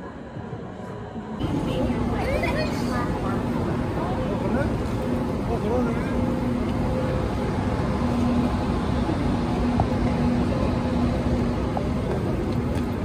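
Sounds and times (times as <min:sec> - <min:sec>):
intermittent low hum: 0:00.0 - 0:13.0.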